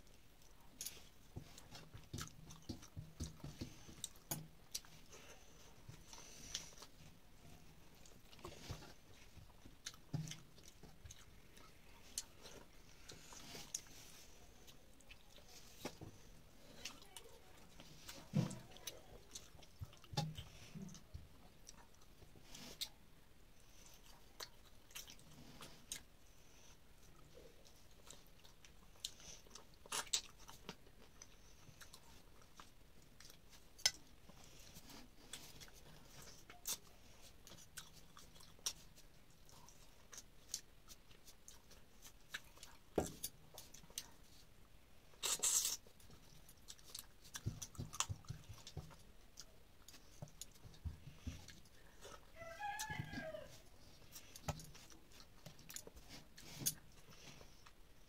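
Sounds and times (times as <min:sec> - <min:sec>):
chewing and mouth sounds: 0:00.0 - 0:23.0, 0:23.6 - 0:44.5, 0:45.1 - 0:58.0.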